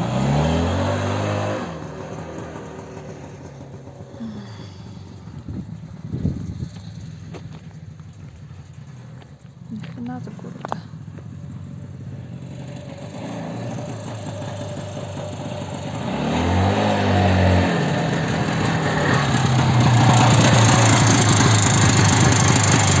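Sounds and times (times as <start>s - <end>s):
two-stroke engine revving: 0.0s - 7.3s, 9.8s - 23.0s.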